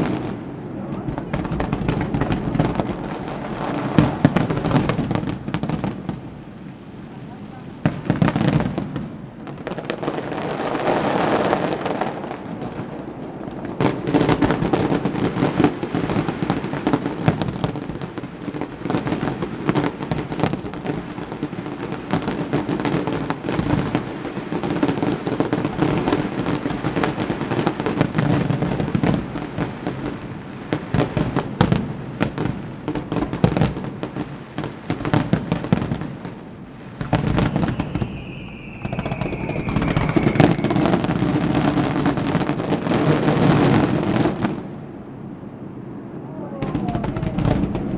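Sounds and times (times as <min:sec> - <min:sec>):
fireworks bangs and crackles: 0:00.0 - 0:47.9
heavy fireworks booms: 0:00.0 - 0:47.9.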